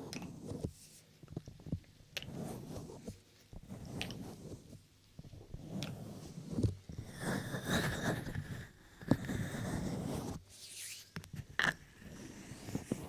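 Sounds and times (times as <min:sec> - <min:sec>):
rubbing and scratching on microphone: 0:00.0 - 0:13.0.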